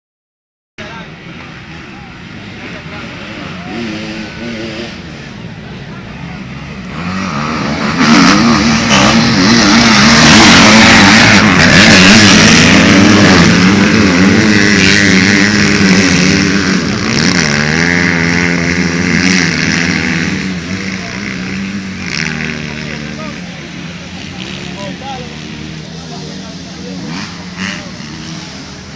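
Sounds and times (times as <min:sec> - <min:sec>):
motocross bikes revving past: 0:00.8 - 0:28.9.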